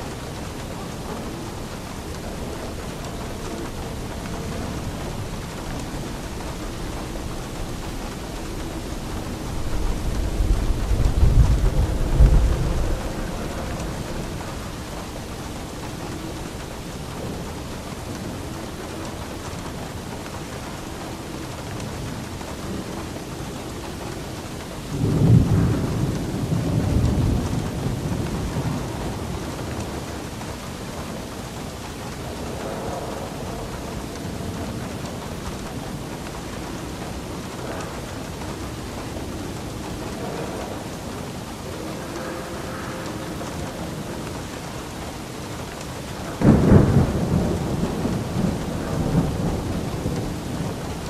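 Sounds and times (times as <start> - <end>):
steady rain: 0.0 - 51.0
thunder rumbling: 0.0 - 51.0.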